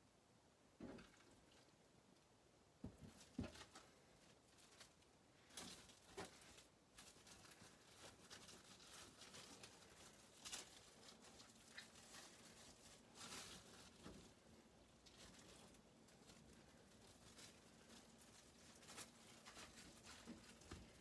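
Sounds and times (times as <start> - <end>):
cling film rustling: 2.9 - 21.0.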